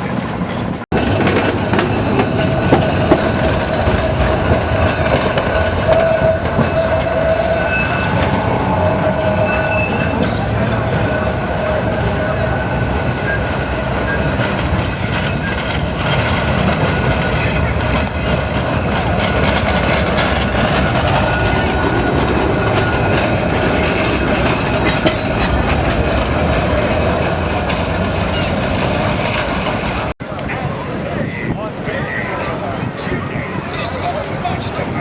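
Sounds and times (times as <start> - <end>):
electric tram rumbling on rails: 0.0 - 35.0.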